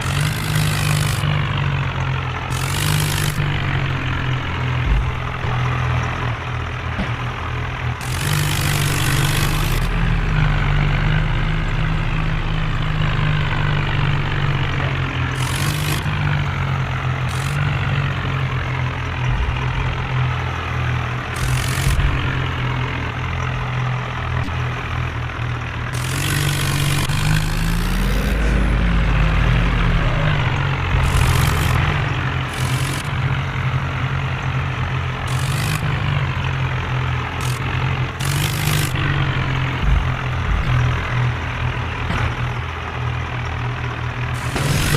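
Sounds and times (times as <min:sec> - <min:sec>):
tractor engine under load: 0:00.0 - 0:44.9.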